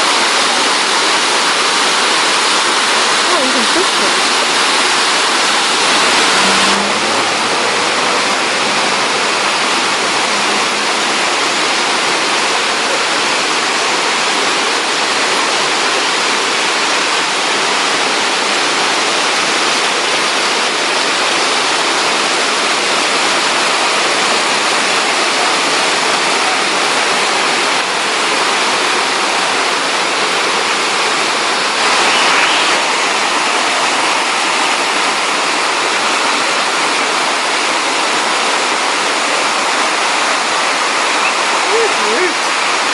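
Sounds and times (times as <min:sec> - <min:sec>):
water rushing: 0:00.0 - 0:42.9.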